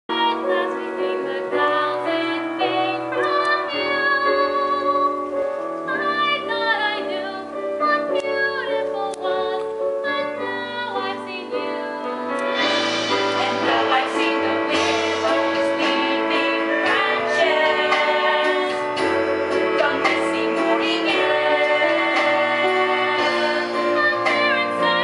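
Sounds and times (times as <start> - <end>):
woman singing with vibrato: 0.1 - 5.3, 5.9 - 25.0
instrumental accompaniment: 0.1 - 25.0.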